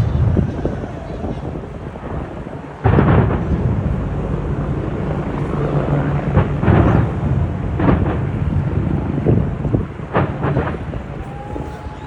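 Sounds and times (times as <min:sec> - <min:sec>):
fireworks booming: 0:00.0 - 0:12.0
sharp fireworks bangs: 0:00.0 - 0:12.0.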